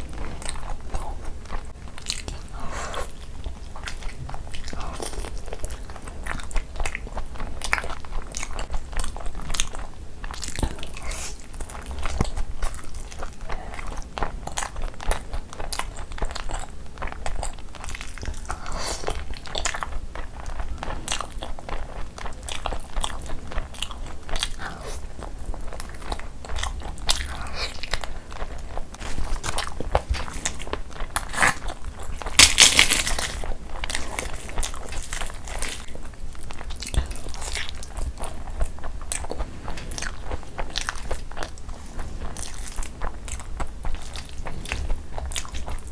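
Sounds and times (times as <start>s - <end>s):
chewing mouth sounds: 0.0s - 45.9s
crunching: 0.0s - 45.9s.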